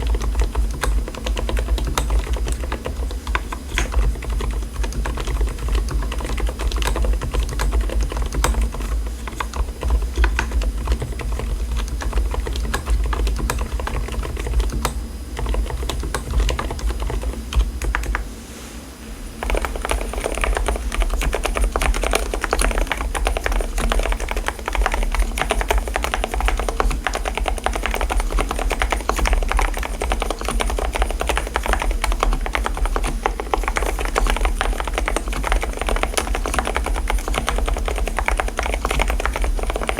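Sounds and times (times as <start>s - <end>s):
mechanical keyboard typing: 0.0s - 18.2s, 19.4s - 39.9s.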